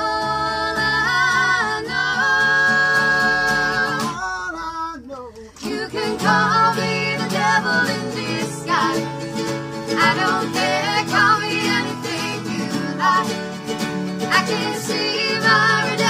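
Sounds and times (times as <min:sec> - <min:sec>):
acoustic guitars and mandolin: 0:00.0 - 0:04.4, 0:05.0 - 0:16.0
voices singing in harmony: 0:00.0 - 0:04.9, 0:05.5 - 0:16.0.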